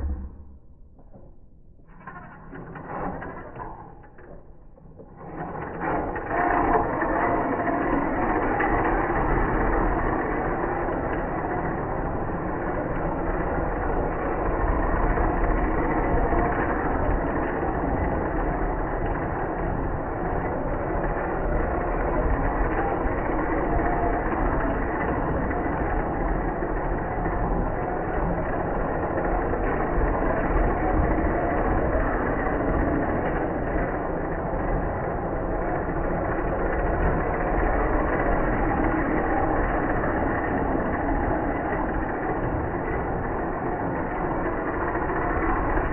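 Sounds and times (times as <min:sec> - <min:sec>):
rc truck motor whirring: 0:04.9 - 0:45.9.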